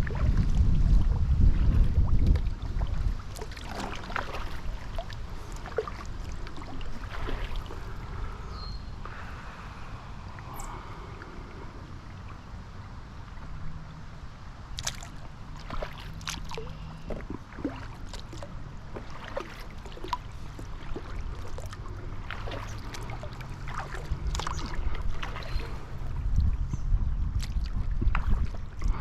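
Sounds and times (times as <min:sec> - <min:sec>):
paddle splashes and drips: 0:00.0 - 0:29.0
steady low rumble: 0:00.0 - 0:29.0.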